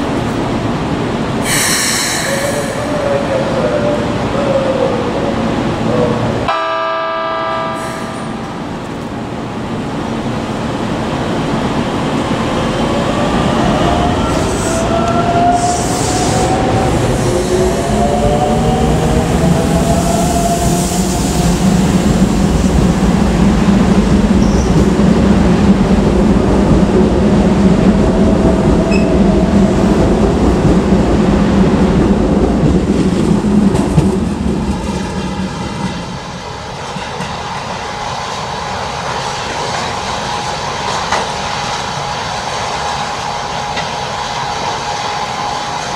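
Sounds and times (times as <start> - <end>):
train wheel and track rumble: 0.0 - 45.9.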